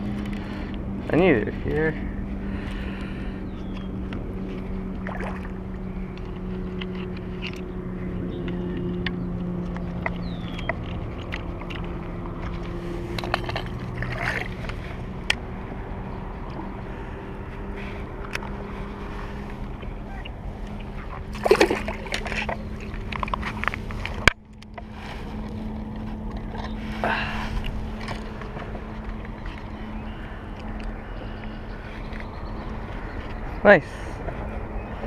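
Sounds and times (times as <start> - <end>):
low motor hum: 0.0 - 35.0.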